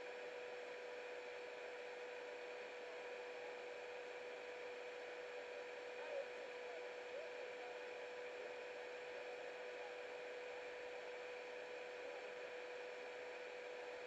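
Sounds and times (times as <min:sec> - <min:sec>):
mid-pitched hum: 0:00.0 - 0:14.0.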